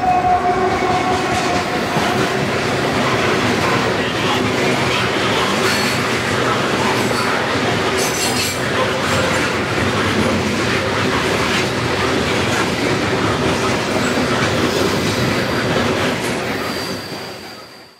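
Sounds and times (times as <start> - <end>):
steel wheels rumbling on rails: 0.0 - 17.9.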